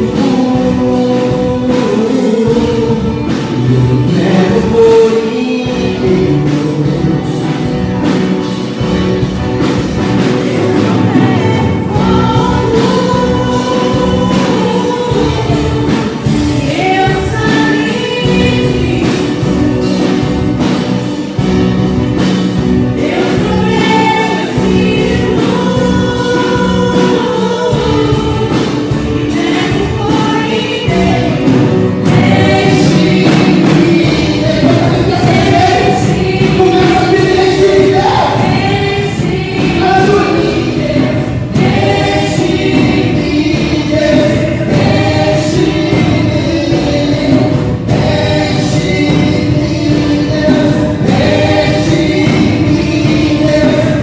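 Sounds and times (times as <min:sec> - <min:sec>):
choir singing worship song: 0:00.0 - 0:54.0
instrumental backing with beat: 0:00.0 - 0:54.0.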